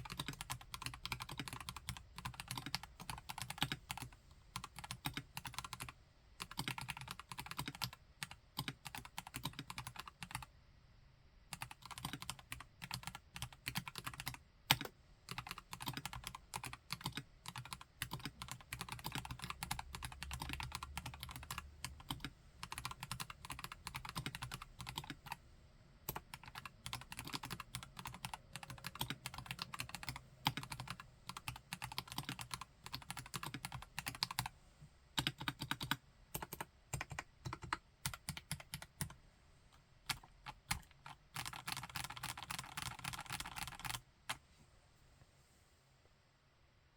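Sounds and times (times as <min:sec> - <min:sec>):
mechanical keyboard typing: 0:00.0 - 0:10.5, 0:11.5 - 0:25.4, 0:26.1 - 0:34.5, 0:35.2 - 0:39.2, 0:40.1 - 0:44.4.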